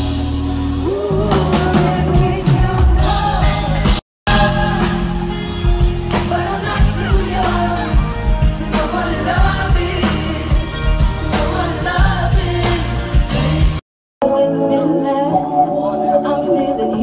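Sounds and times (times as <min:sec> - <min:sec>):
live hip-hop music with heavy bass: 0:00.0 - 0:13.8.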